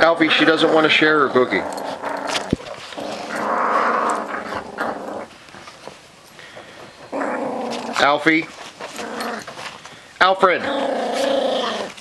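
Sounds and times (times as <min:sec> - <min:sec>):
puppy growling: 0:00.0 - 0:05.8, 0:06.9 - 0:09.7, 0:10.5 - 0:12.0.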